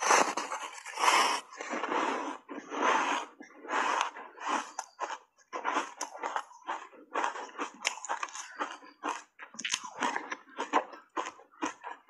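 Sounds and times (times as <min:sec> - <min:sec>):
ice crunching while chewed: 0:00.0 - 0:12.0.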